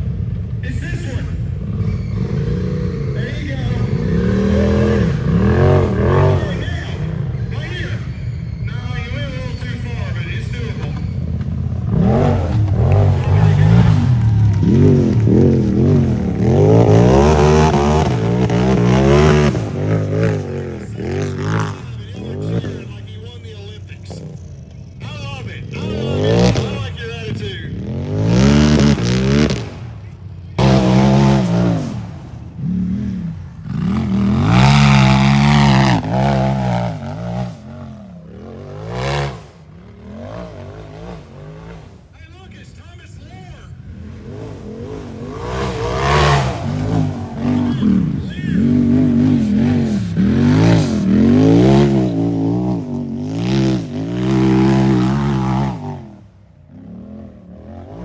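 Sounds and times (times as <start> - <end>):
race engine revving hard: 0.8 - 24.4, 25.0 - 42.1, 43.7 - 58.0.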